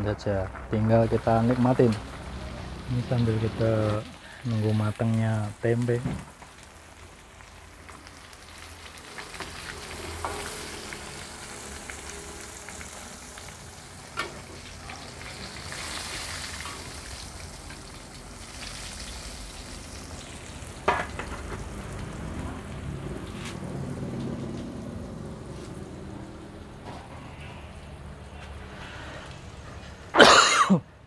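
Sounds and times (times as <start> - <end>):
food frying in oil: 0.2 - 30.0.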